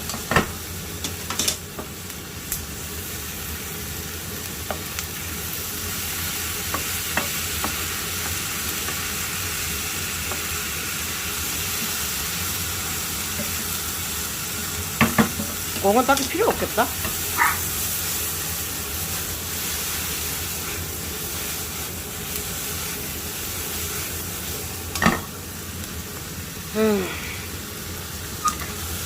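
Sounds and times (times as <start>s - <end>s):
meat sizzling in a frying pan: 0.0s - 29.0s.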